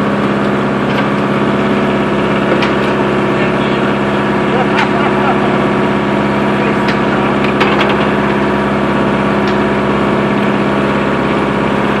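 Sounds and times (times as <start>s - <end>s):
sawmill machinery droning: 0.0s - 12.0s.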